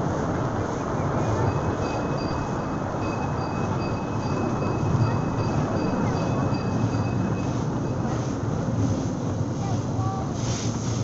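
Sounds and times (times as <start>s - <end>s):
steam train rumbling on track: 0.0s - 11.0s.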